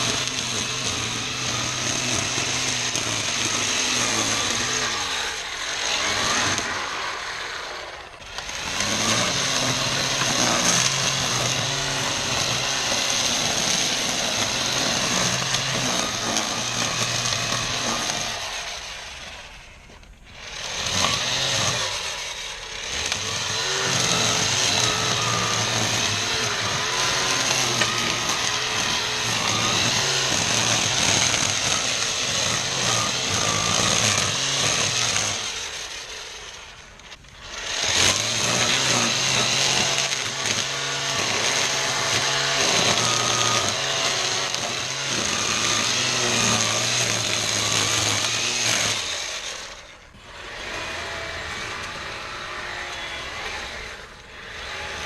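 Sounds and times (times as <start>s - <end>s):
string trimmer motor whining: 0.0s - 55.0s.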